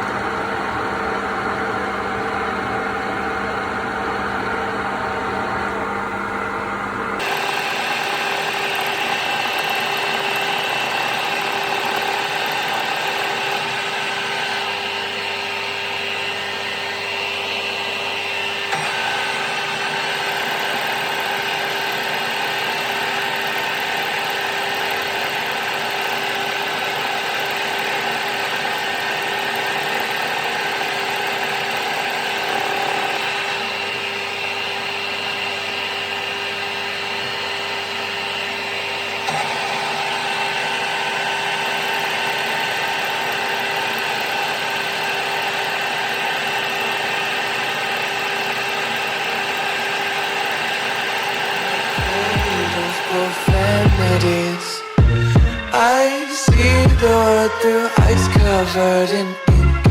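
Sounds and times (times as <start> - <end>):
machine tool whining: 0.0 - 59.9.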